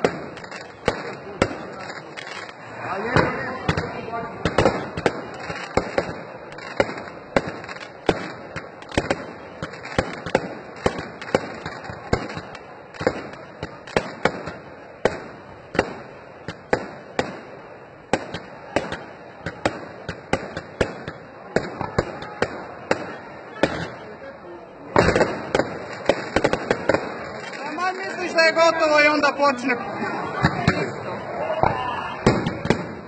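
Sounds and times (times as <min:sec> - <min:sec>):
fireworks banging: 0:00.0 - 0:33.0
fireworks crackling: 0:00.0 - 0:33.0.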